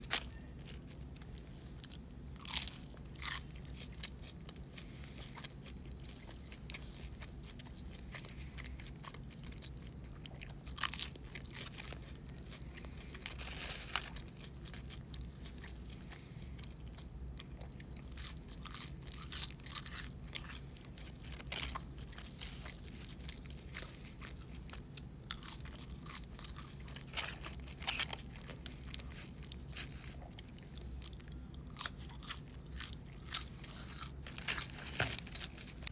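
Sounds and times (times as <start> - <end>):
crunchy chewing: 0.0 - 35.9
steady low hum: 0.0 - 35.9.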